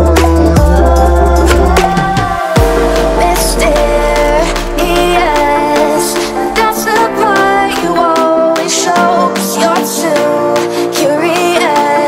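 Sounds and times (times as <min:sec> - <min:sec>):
pop music with sung vocals: 0:00.0 - 0:12.0.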